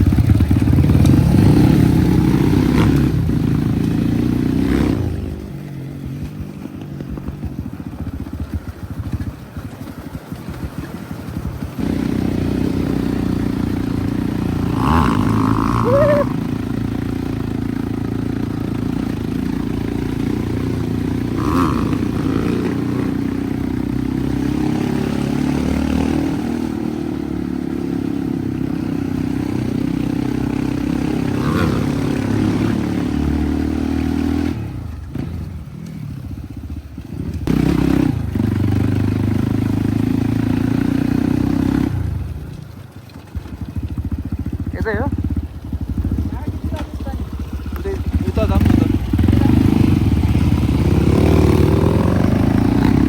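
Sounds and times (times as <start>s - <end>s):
dirt bike engine running: 0.0s - 53.0s.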